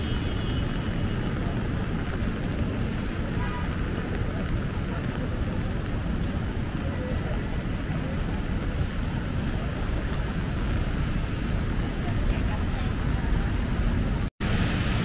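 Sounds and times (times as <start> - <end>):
low city rumble: 0.0 - 15.0
rain hiss on wet pavement: 0.0 - 15.0.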